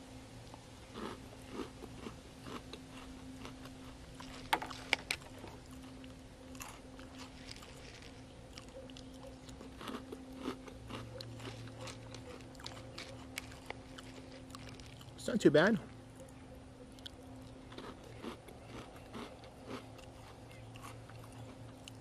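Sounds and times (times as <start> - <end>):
steady low hum: 0.0 - 22.0
person chewing crunchy cereal: 0.5 - 15.4, 16.2 - 22.0.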